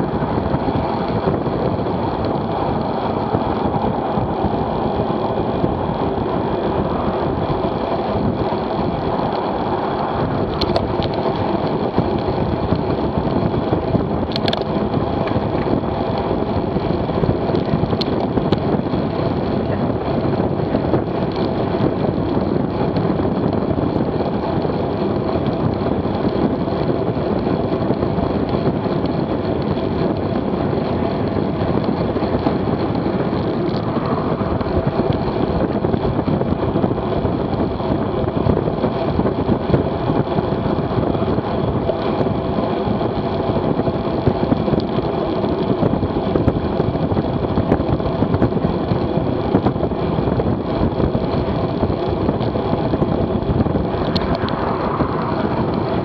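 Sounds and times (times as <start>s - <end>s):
wind and tyre noise: 0.0s - 56.0s.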